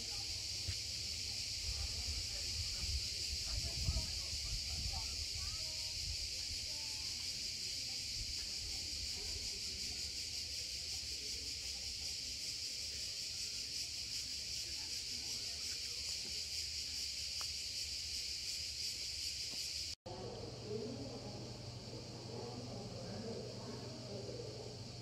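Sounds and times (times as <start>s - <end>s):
cicadas buzzing: 0.0s - 25.0s.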